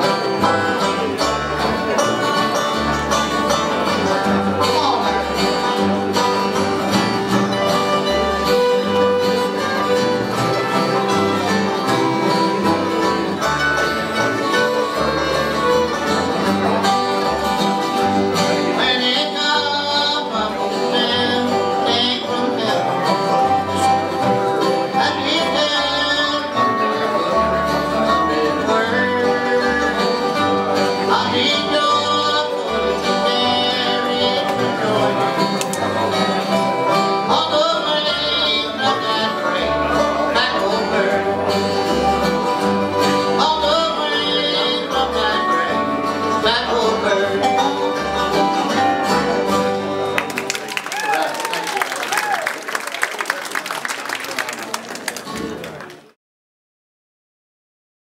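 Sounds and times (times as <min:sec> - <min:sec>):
upright bass walking: 0:00.0 - 0:50.8
bluegrass band playing: 0:00.0 - 0:55.8.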